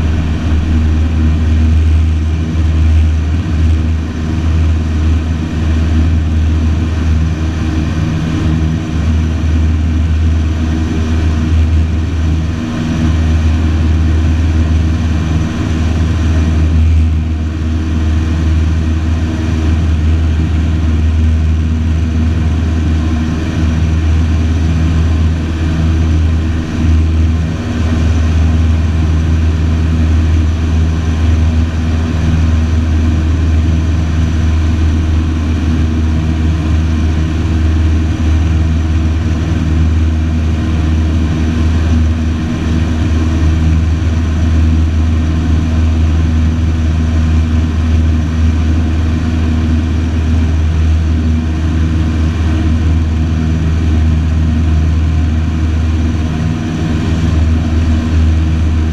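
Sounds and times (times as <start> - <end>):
light aircraft engine and propeller: 0.0 - 58.9.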